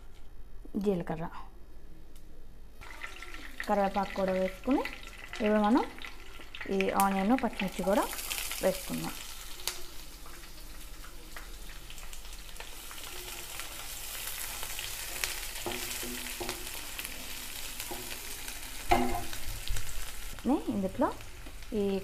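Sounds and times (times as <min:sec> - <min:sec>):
onions sizzling in oil: 0:02.8 - 0:22.0.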